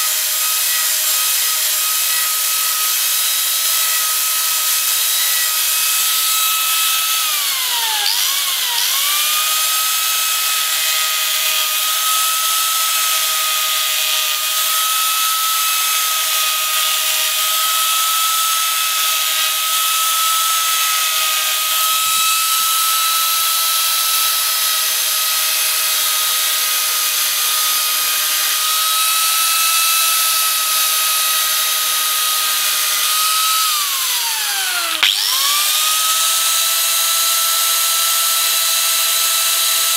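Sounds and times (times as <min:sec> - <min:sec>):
carving tool whining: 0:00.0 - 0:39.9.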